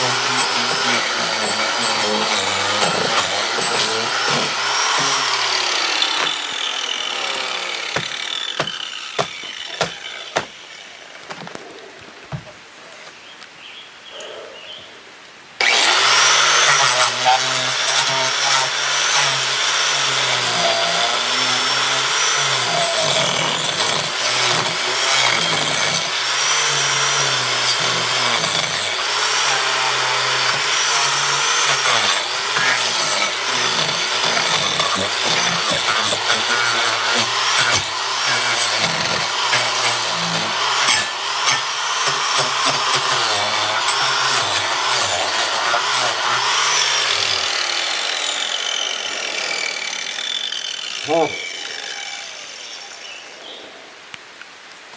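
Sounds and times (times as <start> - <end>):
power tool cutting wood: 0.0 - 10.8, 15.6 - 53.0.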